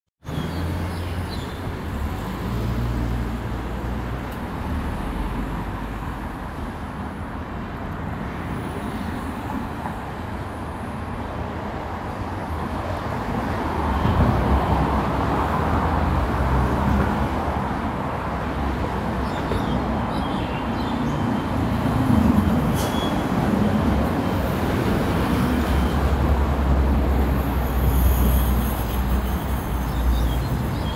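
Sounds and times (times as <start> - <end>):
road traffic: 0.2 - 30.9.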